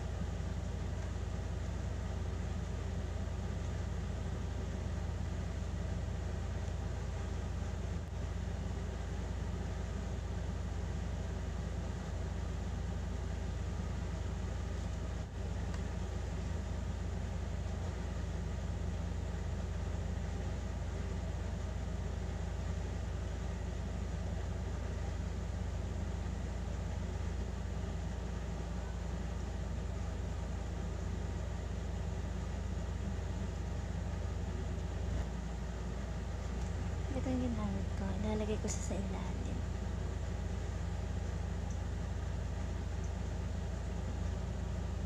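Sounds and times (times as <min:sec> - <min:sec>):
low rumbling background noise: 0:00.0 - 0:45.0.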